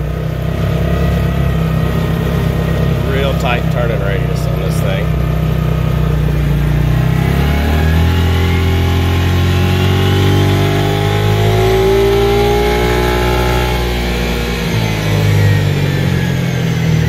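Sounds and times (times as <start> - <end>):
utility vehicle engine accelerating: 0.0 - 17.0.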